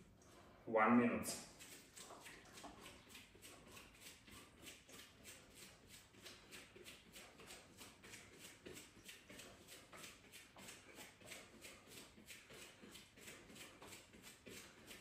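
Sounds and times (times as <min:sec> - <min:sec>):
faint rhythmic tapping: 0:01.5 - 0:15.0.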